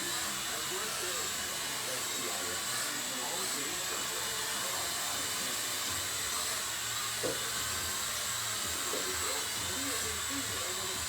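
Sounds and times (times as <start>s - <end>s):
toy drone rotors whirring: 0.0s - 11.0s.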